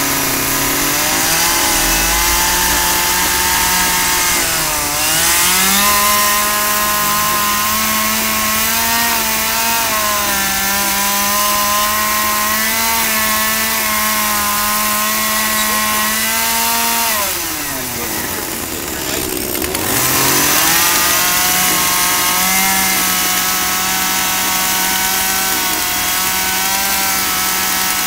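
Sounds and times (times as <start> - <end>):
chainsaw cutting wooden log: 0.0 - 28.0.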